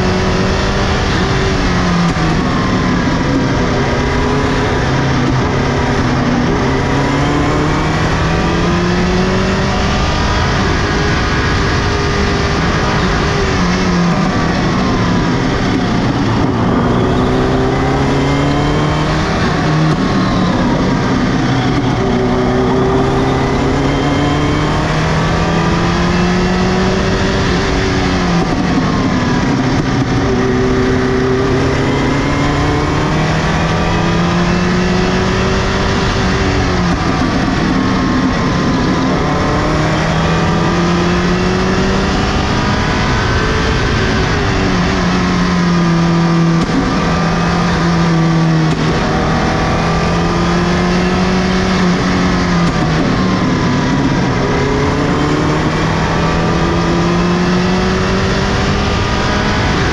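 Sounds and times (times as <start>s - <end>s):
rally car engine revving hard: 0.0s - 59.9s.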